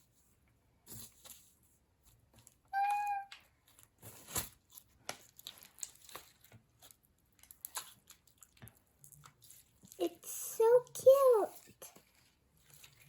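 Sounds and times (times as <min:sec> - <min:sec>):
slime crackling and squelching: 0:02.1 - 0:13.0.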